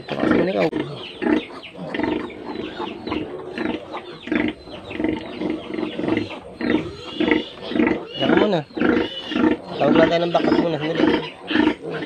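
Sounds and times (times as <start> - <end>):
pigs grunting and squealing: 0.0 - 12.0.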